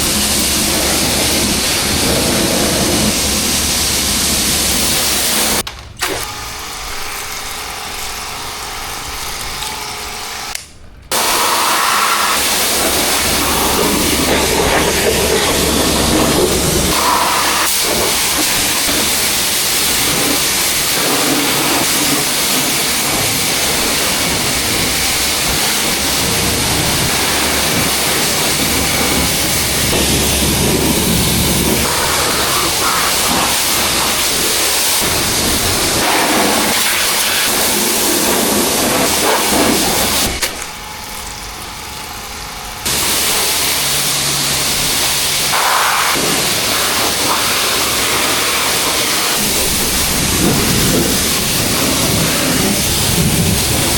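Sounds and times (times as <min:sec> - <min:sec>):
high-pressure water spray hissing: 0:00.0 - 0:05.6, 0:06.6 - 0:53.9.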